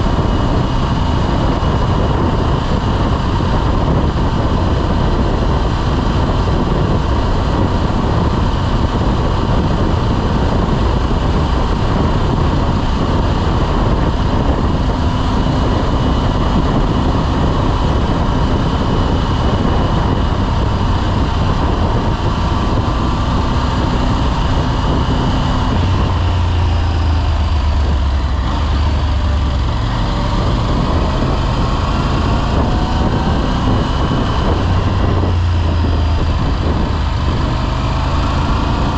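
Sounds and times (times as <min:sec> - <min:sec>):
motorcycle engine: 0:00.0 - 0:38.9
wind noise on microphone: 0:00.0 - 0:38.9.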